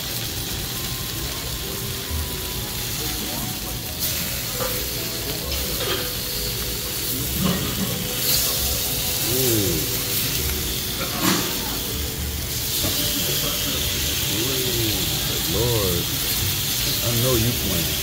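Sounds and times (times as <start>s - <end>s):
meat sizzling on grill plate: 0.0s - 18.0s.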